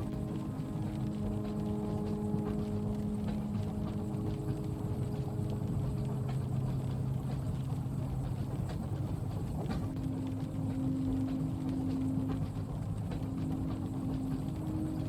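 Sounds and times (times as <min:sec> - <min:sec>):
rain ticking on window: 0:00.0 - 0:15.0
train hum: 0:00.0 - 0:15.0
train running rumble: 0:00.0 - 0:15.0.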